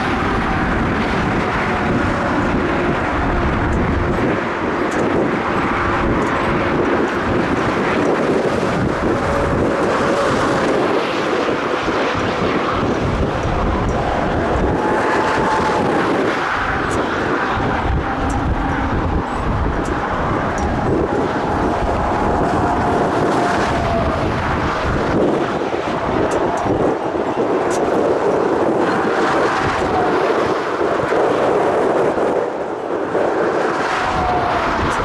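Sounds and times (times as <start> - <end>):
jet engine whine: 0.0 - 35.0
wind buffeting microphone: 0.0 - 35.0.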